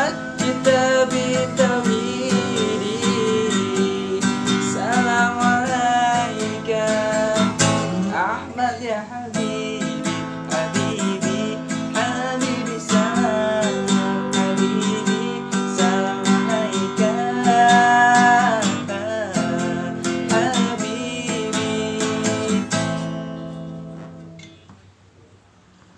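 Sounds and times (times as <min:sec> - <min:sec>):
man singing: 0:00.0 - 0:23.4
acoustic guitar strumming: 0:00.0 - 0:25.0.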